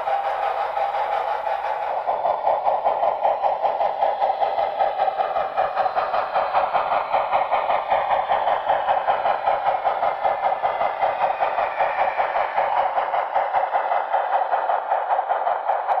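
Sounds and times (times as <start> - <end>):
model train steam chuffs: 0.0 - 16.0.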